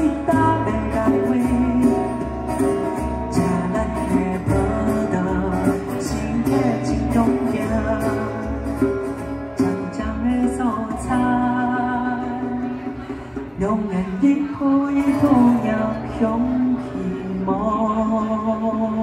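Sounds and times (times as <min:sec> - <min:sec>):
man singing into a microphone: 0:00.0 - 0:19.0
strummed acoustic guitar: 0:00.0 - 0:19.0.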